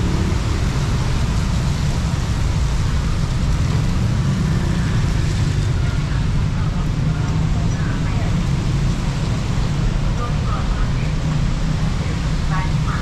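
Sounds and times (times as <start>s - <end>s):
traffic on wet street: 0.0s - 13.0s.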